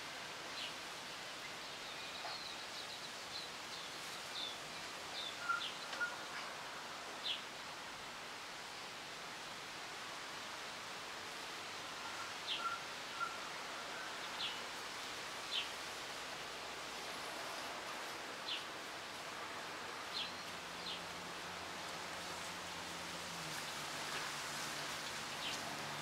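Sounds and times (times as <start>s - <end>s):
breeze rustling foliage: 0.0s - 26.0s.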